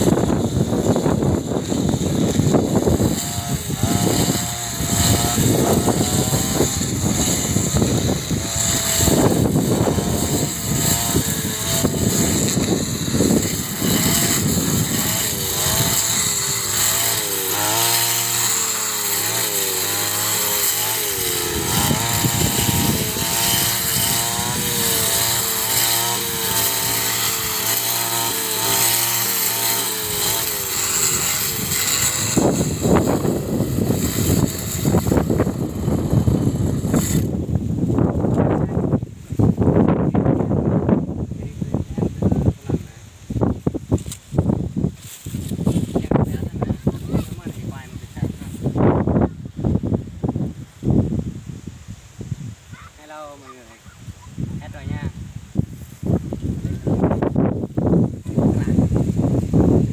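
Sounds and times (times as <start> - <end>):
brush cutter engine running: 0.0 - 51.3, 54.6 - 59.9.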